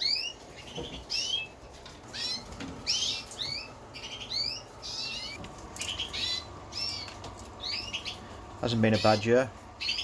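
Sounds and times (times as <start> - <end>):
canaries chirping: 0.0 - 10.0.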